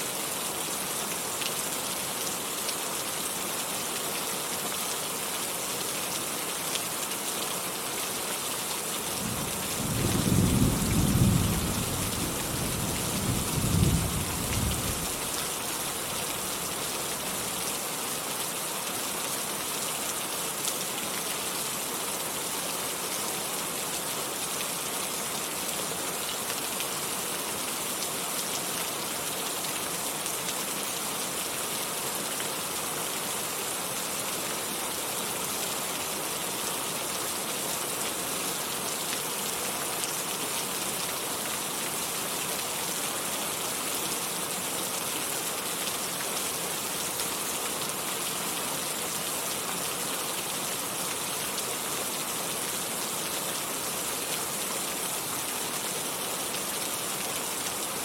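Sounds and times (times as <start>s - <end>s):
heavy rainfall: 0.0s - 58.0s.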